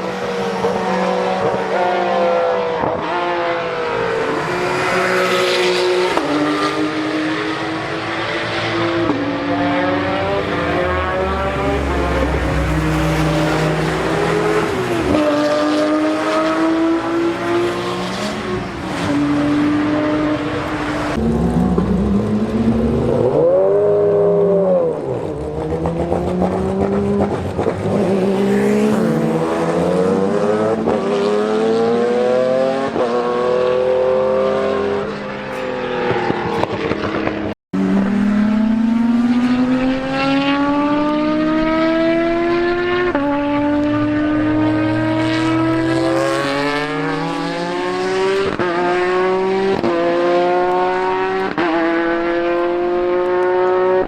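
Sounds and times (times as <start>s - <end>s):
race car engines accelerating: 0.0s - 54.0s.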